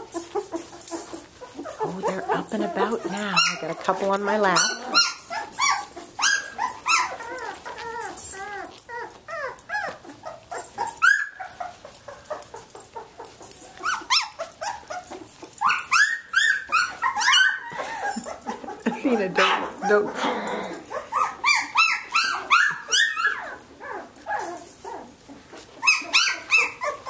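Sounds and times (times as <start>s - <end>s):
puppies crying: 0.0s - 27.0s.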